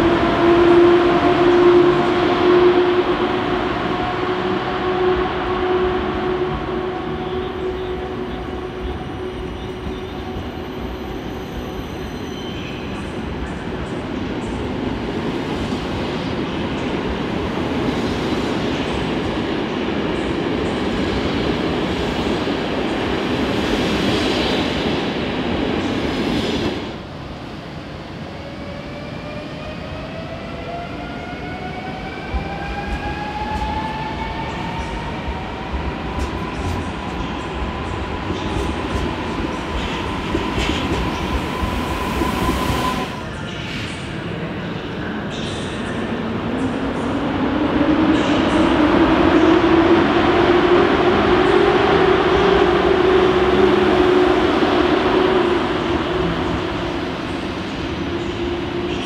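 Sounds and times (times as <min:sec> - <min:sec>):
train rolling along tracks: 0:00.0 - 0:59.0.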